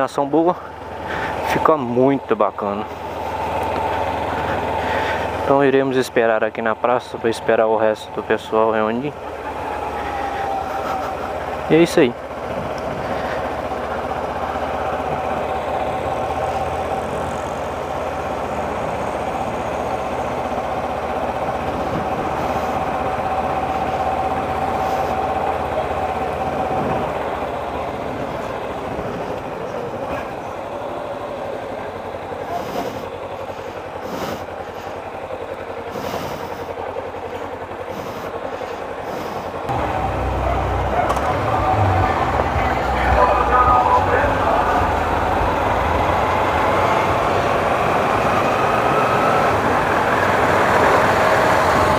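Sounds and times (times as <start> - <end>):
street noise: 0.0 - 51.9
vehicle engine running: 0.0 - 51.9.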